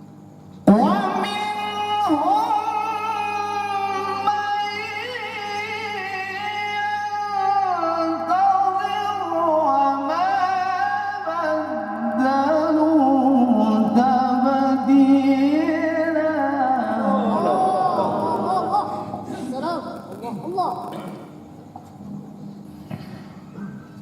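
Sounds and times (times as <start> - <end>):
man reciting melodically: 0.6 - 21.1.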